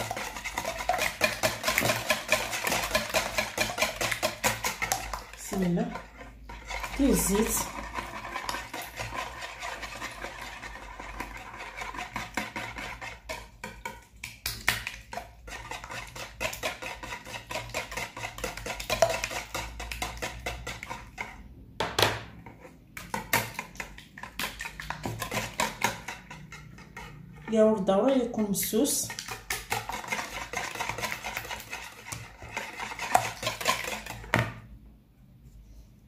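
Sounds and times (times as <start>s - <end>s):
whisk clicking against plastic bowl: 0.0s - 22.2s, 23.0s - 34.6s.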